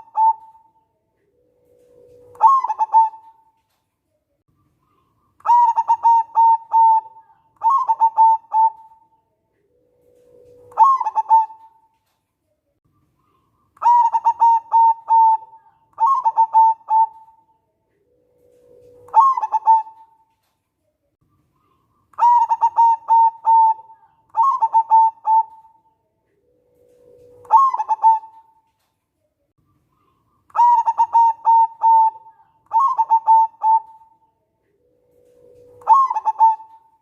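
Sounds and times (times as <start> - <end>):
dove cooing: 0.0 - 3.6, 4.9 - 11.9, 13.2 - 20.3, 21.6 - 28.6, 30.0 - 37.0.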